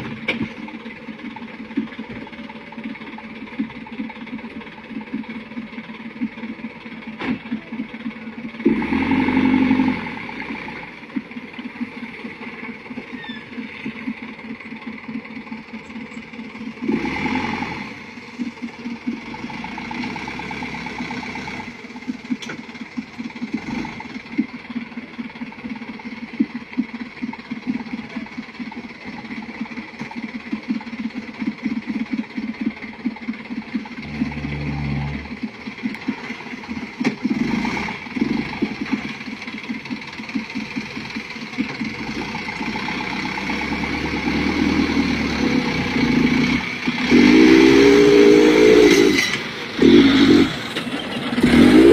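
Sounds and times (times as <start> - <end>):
diesel truck engine labouring: 0.0 - 51.9
truck clattering and rattling: 0.0 - 51.9.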